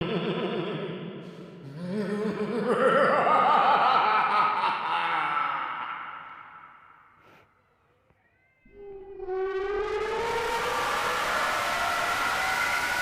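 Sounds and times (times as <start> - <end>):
eerie voice-like wail: 0.0 - 7.0, 8.6 - 13.0.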